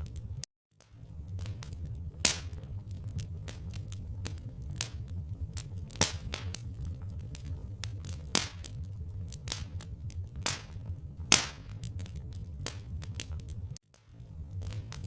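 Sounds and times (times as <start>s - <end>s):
steady low rumble: 0.0s - 15.0s
wood fire crackling: 0.0s - 15.0s.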